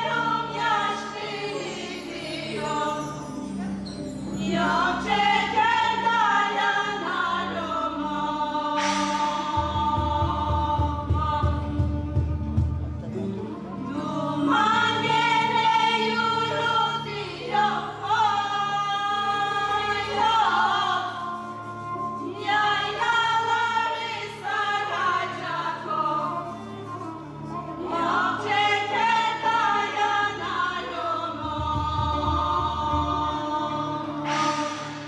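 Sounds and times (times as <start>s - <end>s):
women singing: 0.0s - 3.6s, 4.2s - 12.6s, 13.5s - 35.0s
low instrumental accompaniment: 0.0s - 35.0s.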